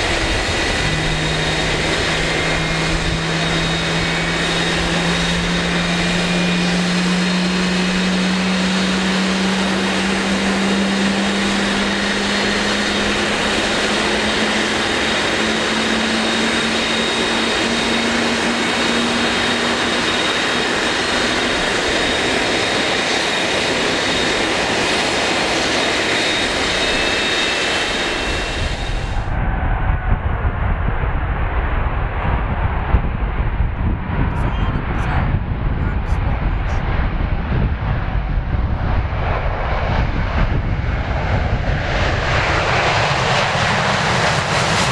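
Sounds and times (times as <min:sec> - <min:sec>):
deep low jet rumble: 0:00.0 - 0:44.9
jet engines running: 0:00.0 - 0:44.9.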